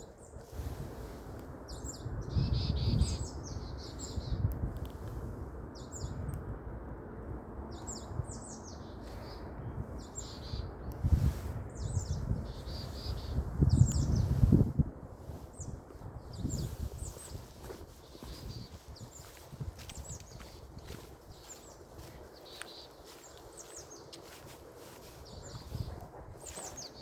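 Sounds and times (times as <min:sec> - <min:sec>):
small birds chirping: 0:00.0 - 0:06.4, 0:07.7 - 0:27.0.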